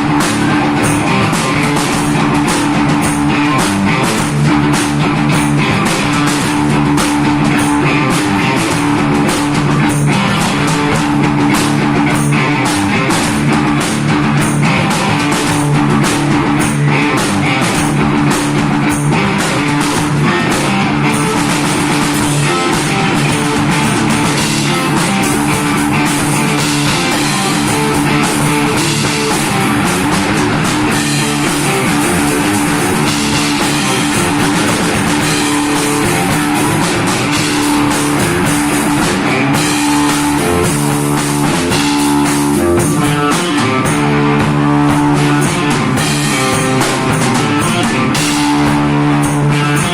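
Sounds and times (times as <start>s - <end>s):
drum kit: 0.0s - 49.9s
electric guitar riffs: 0.0s - 49.9s
rock band playing: 0.0s - 49.9s.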